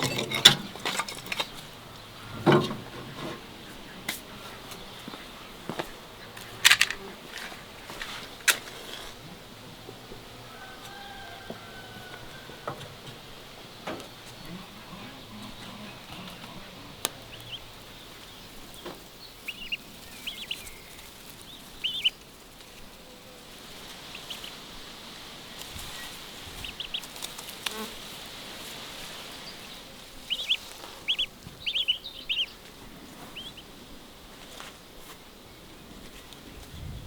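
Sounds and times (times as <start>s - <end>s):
faint outdoor buzz: 0.0s - 37.0s
small birds chirping: 0.0s - 37.0s.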